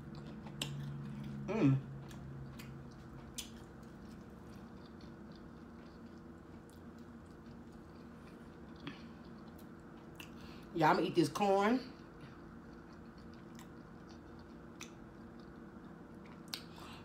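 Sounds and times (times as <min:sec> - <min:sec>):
mouth chewing with wet clicks: 0:00.0 - 0:10.6, 0:11.9 - 0:16.8
steady low hum: 0:00.0 - 0:17.0.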